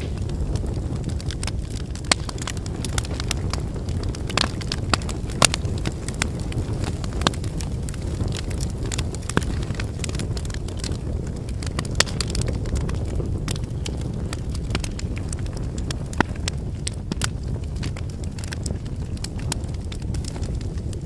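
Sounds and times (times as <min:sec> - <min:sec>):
logs crackling and popping: 0:00.0 - 0:21.0
low rush of flames: 0:00.0 - 0:21.0.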